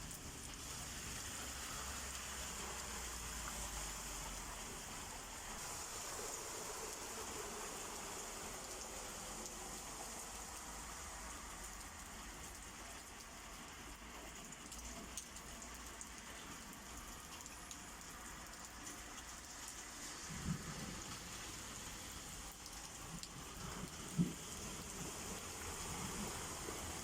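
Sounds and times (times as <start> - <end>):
water drips: 0.0 - 5.7, 10.2 - 27.0
steady rain falling: 0.0 - 27.0.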